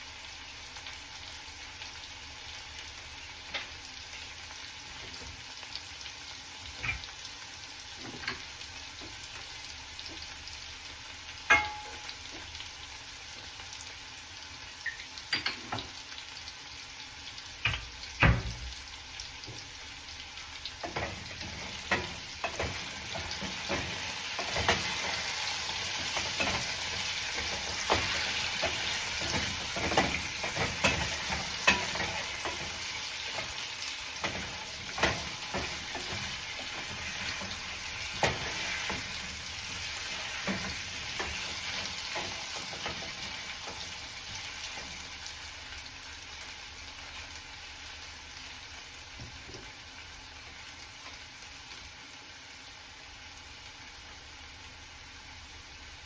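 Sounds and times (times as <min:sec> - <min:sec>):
potatoes sizzling in hot oil: 0:00.0 - 0:56.0.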